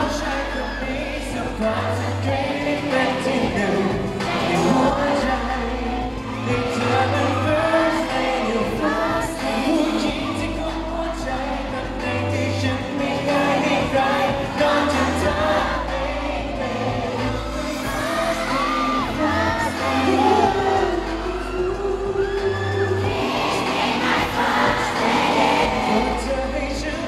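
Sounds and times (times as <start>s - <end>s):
amplified backing music: 0.0s - 27.0s
man singing into microphone: 0.0s - 27.0s.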